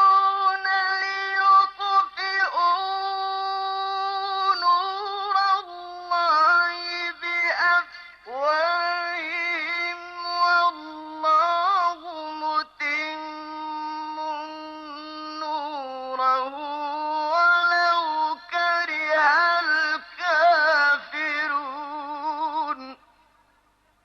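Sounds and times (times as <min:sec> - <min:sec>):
man chanting melodically: 0:00.0 - 0:23.2.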